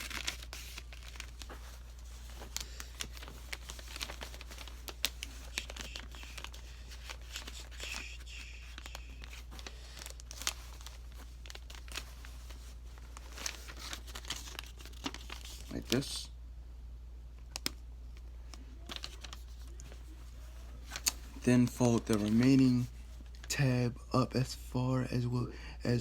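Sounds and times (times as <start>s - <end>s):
paper crinkling: 0.0s - 16.2s, 17.4s - 23.6s
steady low hum: 0.0s - 26.0s.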